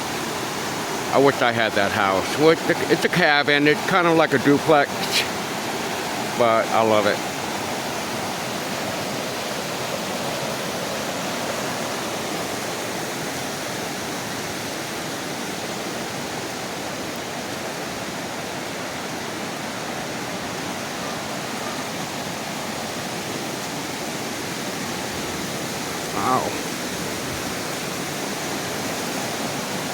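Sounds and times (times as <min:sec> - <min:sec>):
fast-flowing creek water: 0:00.0 - 0:29.9.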